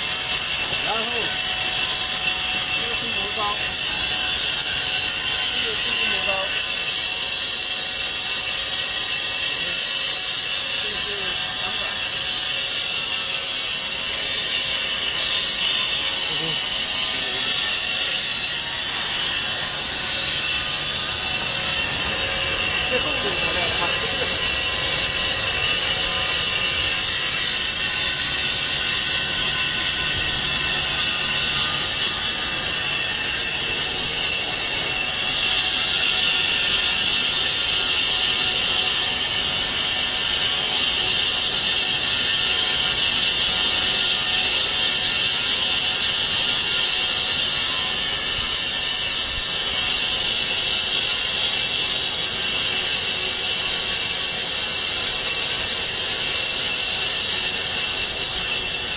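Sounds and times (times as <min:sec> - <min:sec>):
foam cutting machine hissing: 0:00.0 - 0:58.9.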